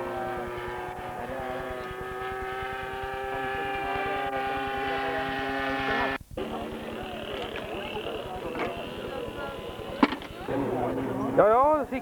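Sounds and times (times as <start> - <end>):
model airplane engine running: 0.0 - 10.9.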